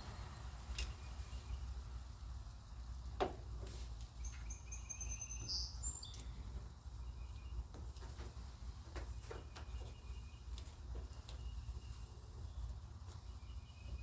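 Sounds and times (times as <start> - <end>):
songbird chirping: 0.0 - 2.4, 4.0 - 14.0
steady low hum: 0.0 - 14.0.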